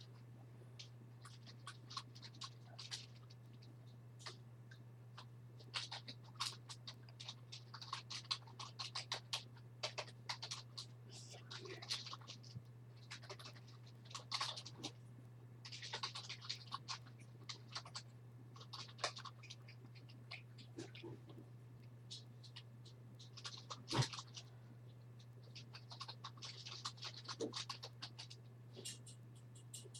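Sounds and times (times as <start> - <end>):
low electrical hum: 0.0 - 29.9
scratching and clicking handling: 0.0 - 29.9.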